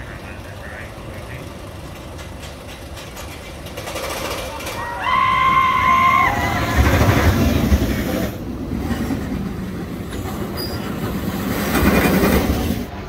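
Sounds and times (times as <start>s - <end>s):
roller coaster wheels rumbling on rail: 0.0s - 13.0s.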